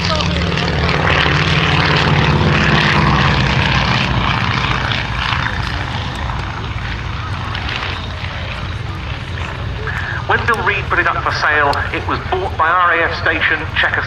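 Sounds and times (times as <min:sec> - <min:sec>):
aircraft radial engines passing: 0:00.0 - 0:14.0.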